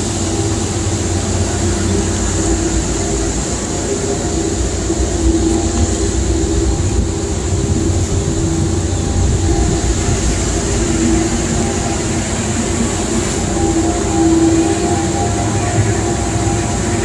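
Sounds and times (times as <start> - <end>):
diesel engines rumbling: 0.0 - 17.0
wind and water hiss: 0.0 - 17.0.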